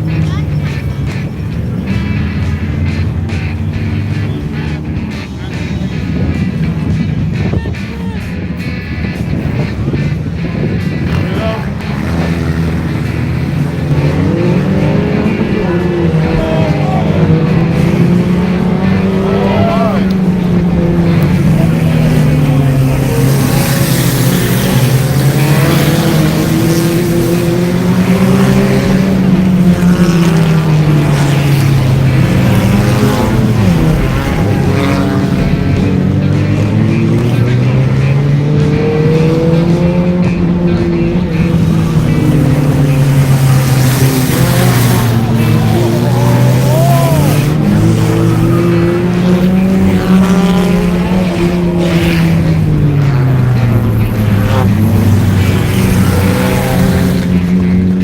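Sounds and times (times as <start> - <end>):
racing car engines droning: 0.0 - 58.0.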